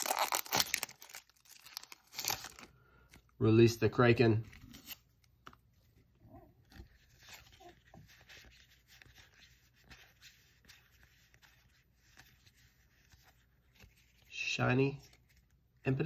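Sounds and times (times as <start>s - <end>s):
cards rustling: 0.0s - 3.4s, 4.2s - 16.0s.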